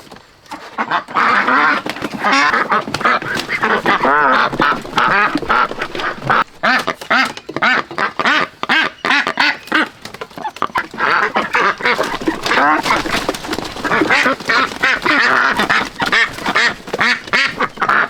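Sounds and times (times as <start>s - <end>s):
ducks quacking loudly: 0.5s - 18.0s.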